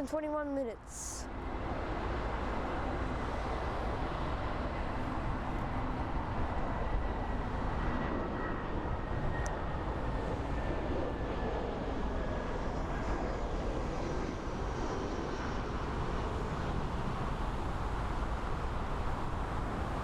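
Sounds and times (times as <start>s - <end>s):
jet engines roaring: 1.1s - 20.0s.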